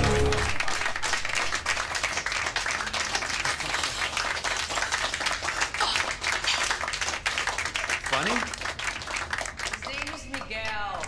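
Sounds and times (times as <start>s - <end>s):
people clapping: 0.0s - 11.0s.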